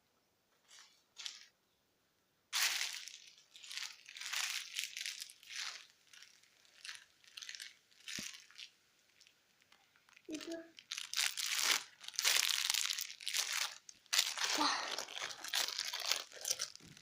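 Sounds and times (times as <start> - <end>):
crinkling crunching handling noises: 0.6 - 1.6, 2.5 - 17.0.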